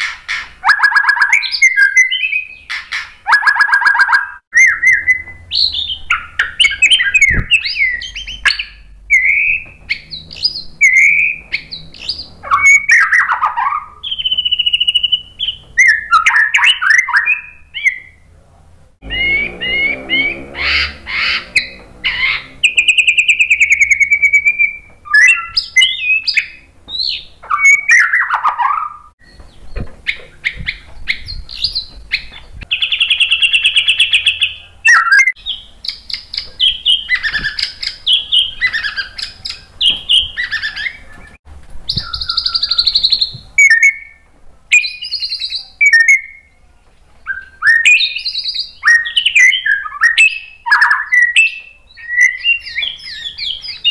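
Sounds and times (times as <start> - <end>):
bird singing varied song: 0.0 - 18.4, 19.0 - 53.9.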